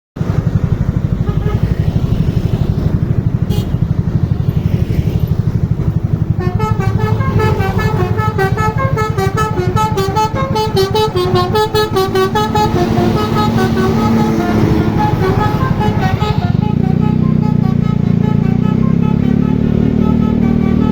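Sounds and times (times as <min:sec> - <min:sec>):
low pulsing engine rumble: 0:00.2 - 0:20.9
multi-tone bus horn melody: 0:01.1 - 0:02.0, 0:03.1 - 0:04.1, 0:06.1 - 0:20.9.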